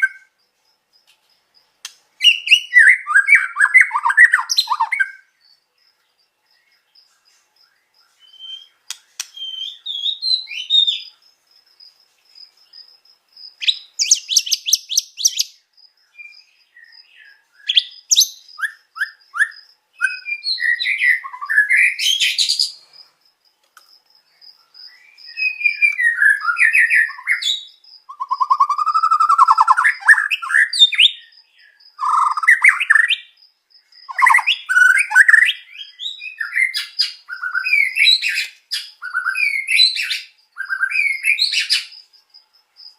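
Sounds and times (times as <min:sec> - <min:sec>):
songbird singing varied song: 0:00.0 - 0:42.9.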